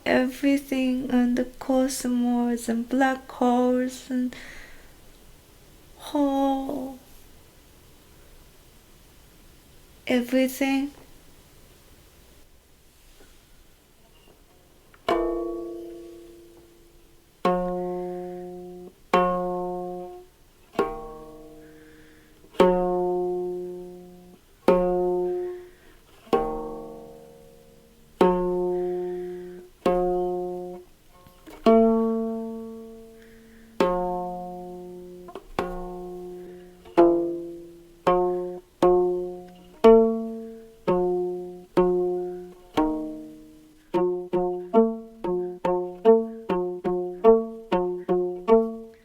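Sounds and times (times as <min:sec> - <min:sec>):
plucked stringed instrument: 0:00.0 - 0:04.6, 0:14.0 - 0:49.0.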